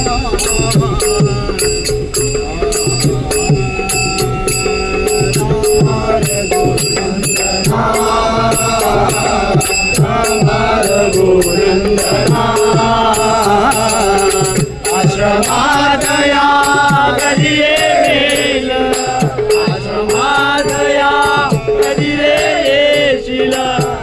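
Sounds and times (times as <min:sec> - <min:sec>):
percussion keeping a steady beat: 0:00.0 - 0:24.0
person singing wordlessly: 0:00.0 - 0:24.0
sustained accompaniment tones: 0:00.0 - 0:24.0.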